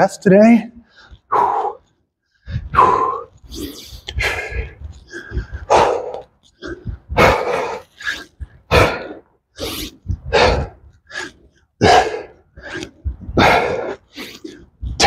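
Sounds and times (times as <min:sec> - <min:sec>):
man breathing hard: 0:00.8 - 0:15.0.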